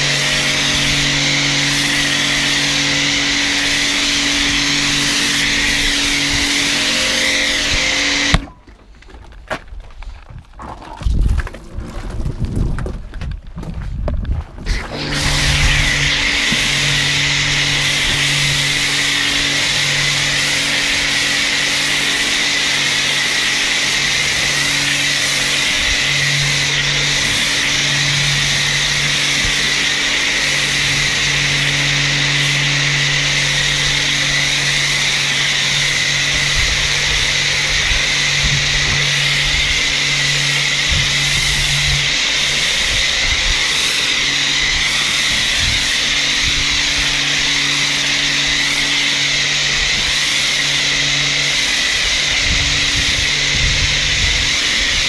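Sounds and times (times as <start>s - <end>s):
pressure washer humming: 0.0s - 8.7s, 14.6s - 55.0s.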